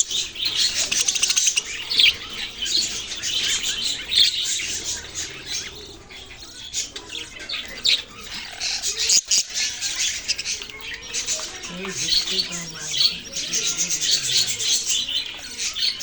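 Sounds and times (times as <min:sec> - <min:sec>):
parrots chirping and twittering: 0:00.0 - 0:16.0.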